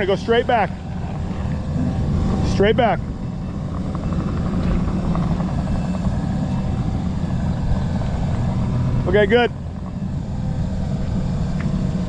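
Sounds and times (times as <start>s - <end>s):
small machine engine running: 0.0s - 12.0s.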